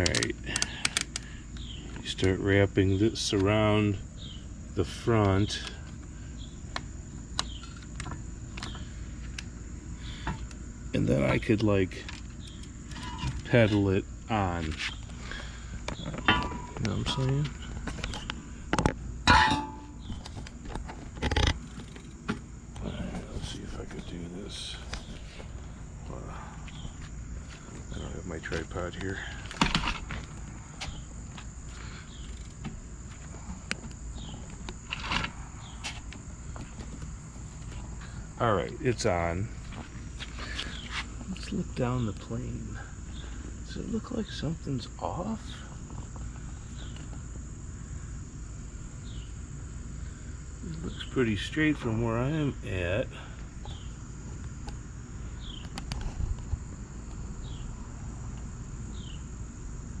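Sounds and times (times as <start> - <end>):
high-pitched insect drone: 0.0 - 60.0.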